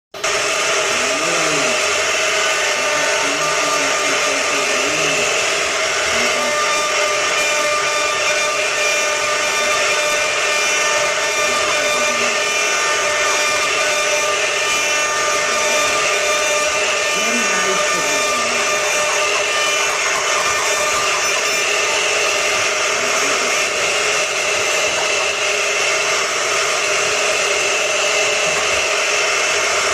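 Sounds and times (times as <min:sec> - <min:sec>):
power tool motor running: 0:00.2 - 0:29.9.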